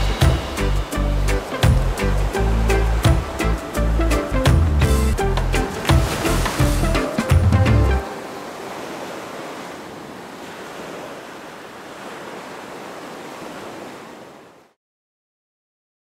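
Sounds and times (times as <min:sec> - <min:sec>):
waves washing up on beach: 0:00.0 - 0:04.4, 0:05.2 - 0:14.8.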